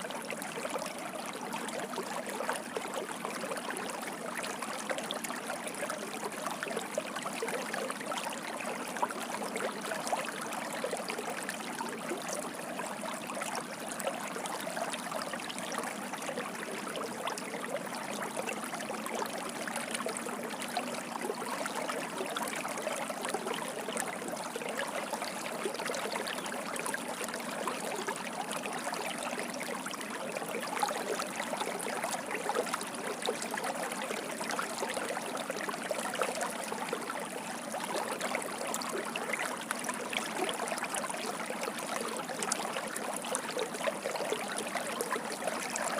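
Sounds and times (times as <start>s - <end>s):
water streaming and splashing: 0.0s - 45.9s.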